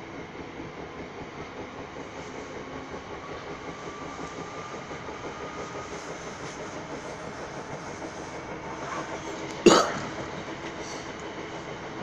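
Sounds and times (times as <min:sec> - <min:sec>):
train rumble and rail noise: 0:00.0 - 0:12.0.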